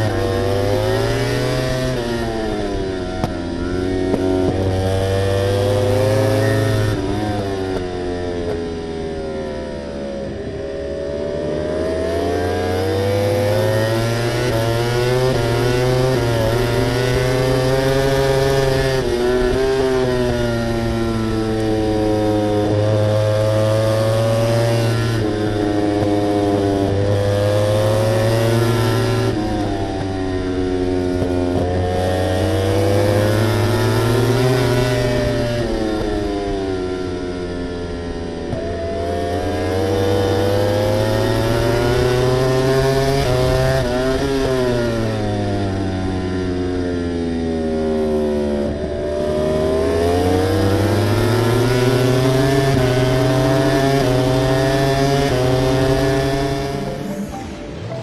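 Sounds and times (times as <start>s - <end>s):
racing motorcycle engine revving: 0.0s - 57.9s.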